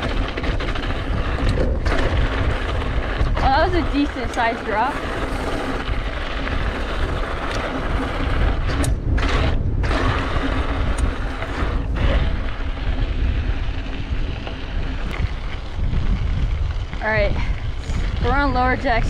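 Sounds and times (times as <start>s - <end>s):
bike clicks and rattles: 0.0s - 19.0s
tyres crunching over loose dirt: 0.0s - 19.0s
wind rush on microphone: 0.0s - 19.0s.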